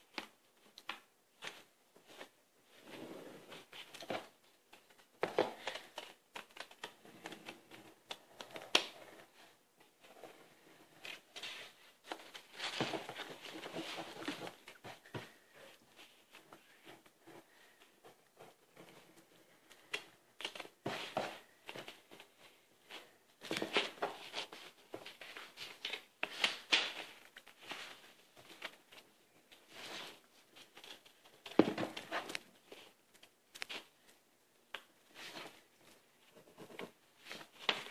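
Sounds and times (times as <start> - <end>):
paper rustling: 0.1 - 34.2, 34.8 - 37.9.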